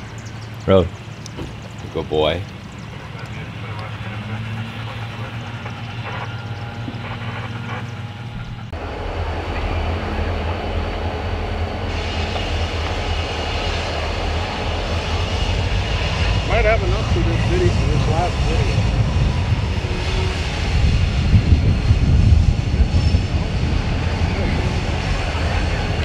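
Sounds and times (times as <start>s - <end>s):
diesel locomotives rumbling: 0.0s - 26.0s.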